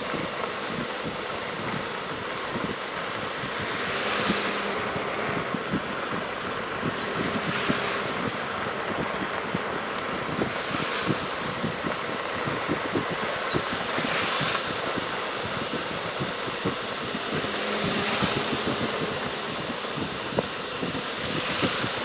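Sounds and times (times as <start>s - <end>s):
tyres hissing on wet street: 0.0s - 22.0s.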